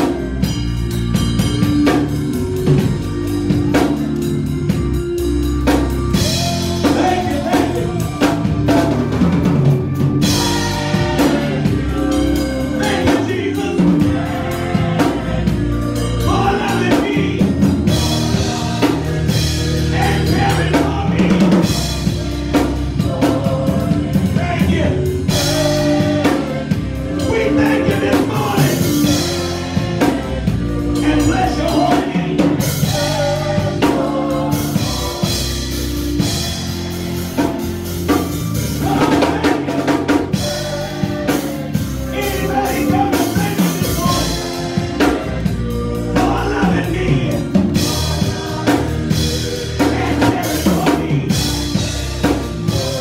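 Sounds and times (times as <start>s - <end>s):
drum kit and band: 0.0s - 53.0s
gospel group singing: 0.0s - 53.0s.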